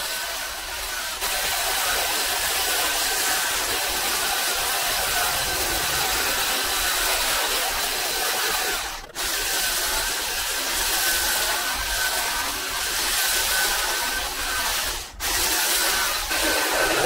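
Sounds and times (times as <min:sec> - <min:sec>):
hedge trimmer whining: 0:01.7 - 0:17.0.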